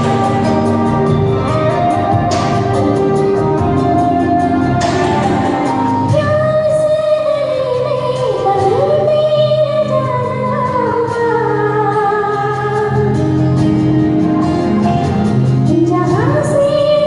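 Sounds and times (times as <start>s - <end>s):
woman singing: 0.0s - 13.7s, 15.6s - 17.0s
instrumental backing track: 0.0s - 17.0s.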